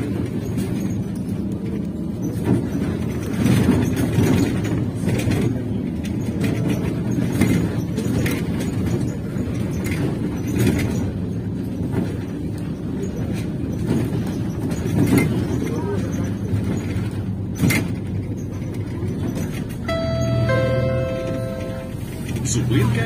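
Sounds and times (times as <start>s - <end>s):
trolleybus cabin rumble: 0.0s - 23.0s.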